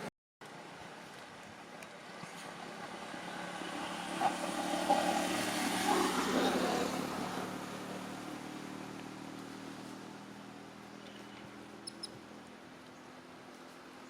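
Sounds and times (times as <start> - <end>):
motor vehicle passing by: 2.0 - 14.0.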